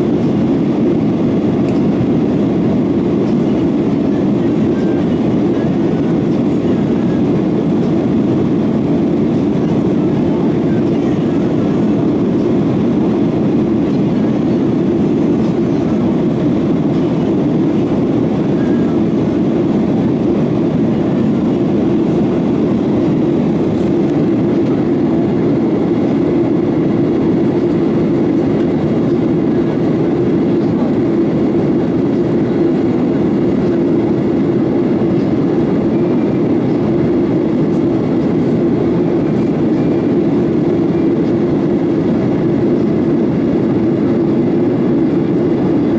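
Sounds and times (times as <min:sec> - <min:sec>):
jet engines running: 0:00.0 - 0:45.9.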